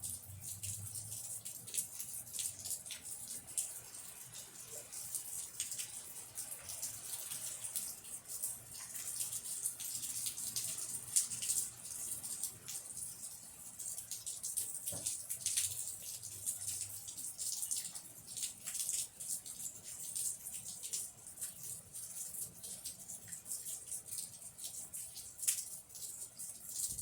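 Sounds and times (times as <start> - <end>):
rain falling: 0.0 - 27.0
raindrops tapping: 0.0 - 27.0.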